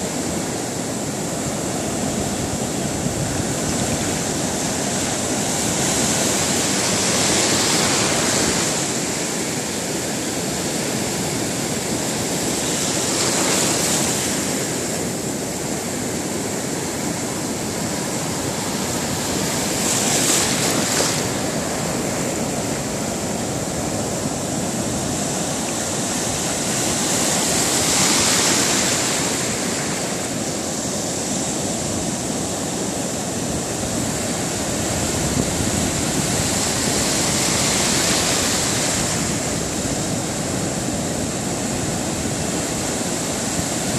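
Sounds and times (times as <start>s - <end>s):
continuous wash of water: 0.0s - 43.9s
wave crashing: 0.0s - 43.9s.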